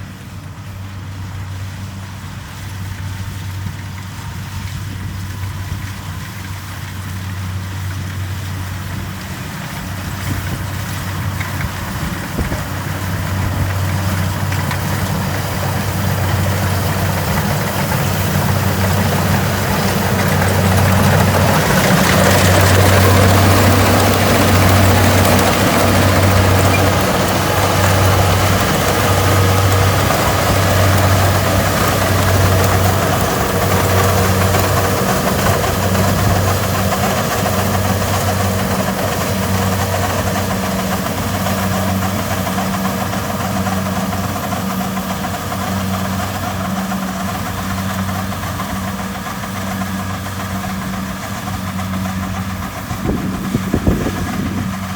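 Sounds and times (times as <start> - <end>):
broad rushing noise: 0.0 - 54.9
diesel engine droning: 0.0 - 54.9.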